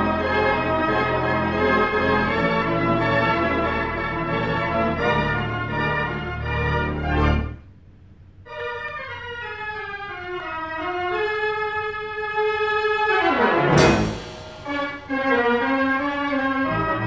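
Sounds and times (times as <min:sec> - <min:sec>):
theater organ chords: 0:00.0 - 0:17.0.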